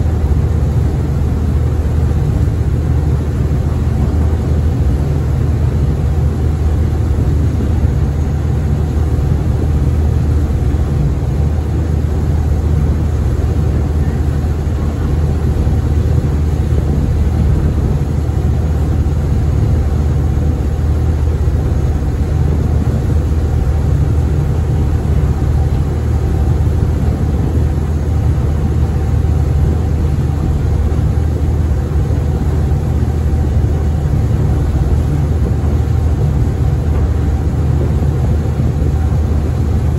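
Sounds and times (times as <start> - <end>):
ferry diesel engine drone: 0.0 - 39.9
water rushing: 0.0 - 39.9.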